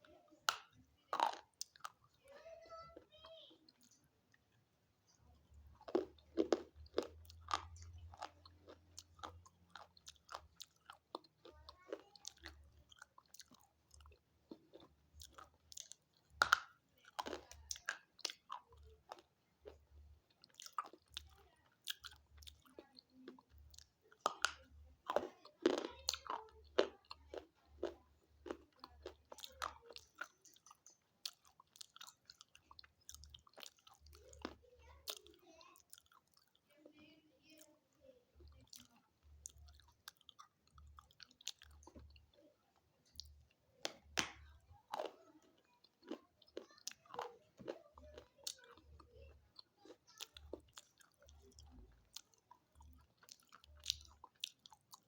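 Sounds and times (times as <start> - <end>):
biting and chewing crunches: 0.5 - 2.0, 5.8 - 36.6, 43.1 - 55.0.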